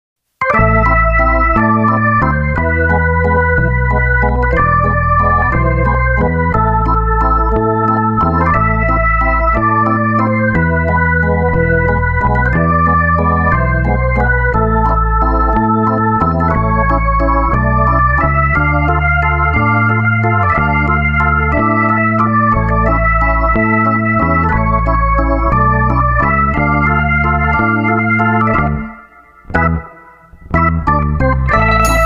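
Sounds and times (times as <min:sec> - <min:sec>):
background music with chords and bass: 0:00.4 - 0:32.0.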